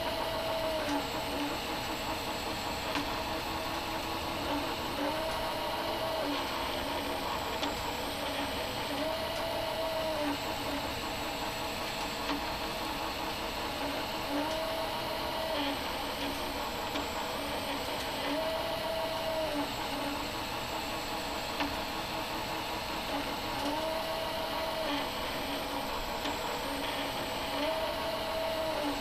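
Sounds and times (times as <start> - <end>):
stepper motors whining: 0.0 - 29.0.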